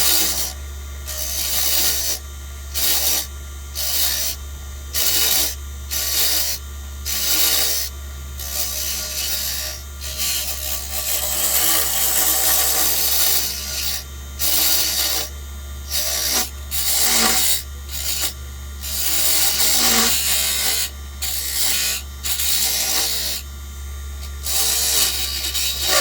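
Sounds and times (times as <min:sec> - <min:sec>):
tool scraping spinning wood: 0:00.0 - 0:26.0
wood lathe motor hum: 0:00.0 - 0:26.0.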